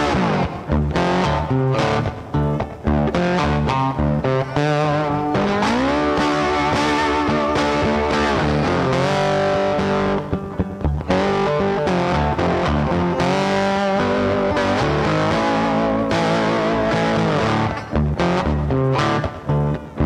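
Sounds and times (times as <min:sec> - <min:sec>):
bass: 0:00.0 - 0:20.0
distorted electric guitar: 0:00.0 - 0:20.0.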